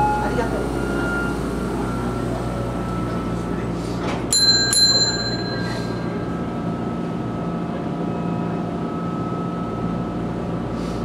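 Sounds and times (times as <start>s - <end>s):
tram electrical hum: 0.0s - 11.0s.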